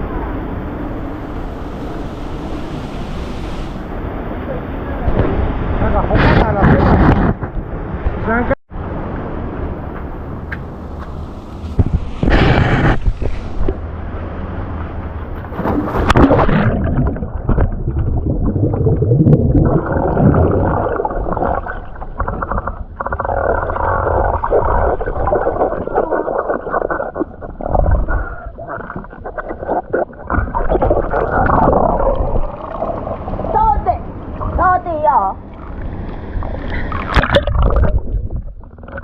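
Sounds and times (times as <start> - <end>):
muffled underwater water churning: 0.0 - 8.2, 9.7 - 39.0.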